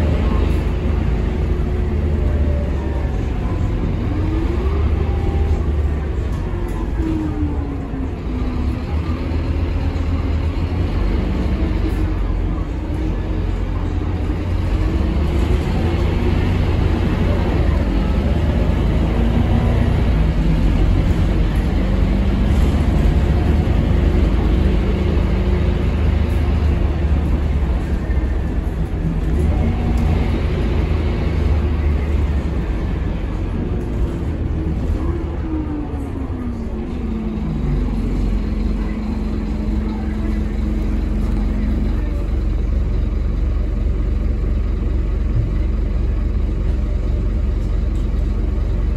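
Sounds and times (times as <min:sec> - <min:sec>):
bus diesel engine running: 0:00.0 - 0:48.9
road noise: 0:00.0 - 0:48.9.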